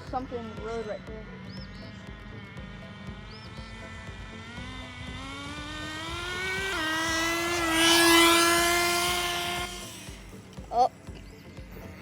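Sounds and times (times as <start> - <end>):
rc car nitro engine revving: 0.0 - 10.6.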